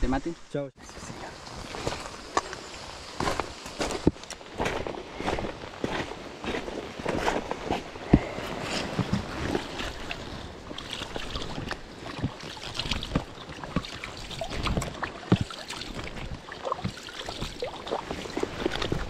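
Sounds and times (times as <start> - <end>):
water sloshing and splashing: 0.9 - 19.0.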